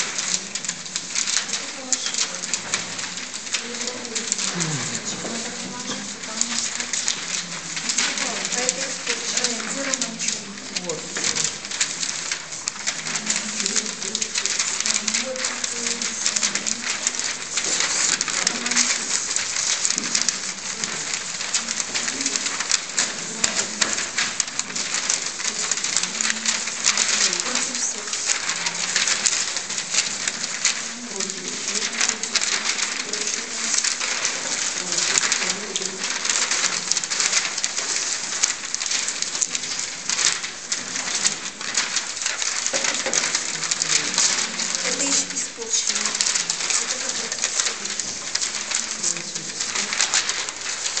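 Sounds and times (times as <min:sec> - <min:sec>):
paper sheets rustling: 0:00.0 - 0:51.0.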